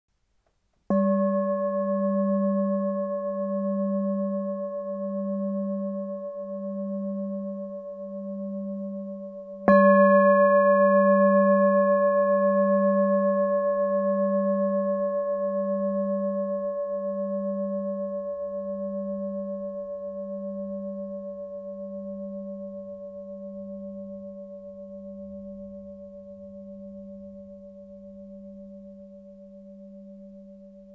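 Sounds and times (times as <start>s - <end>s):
singing bowl struck and ringing: 0.9s - 30.9s.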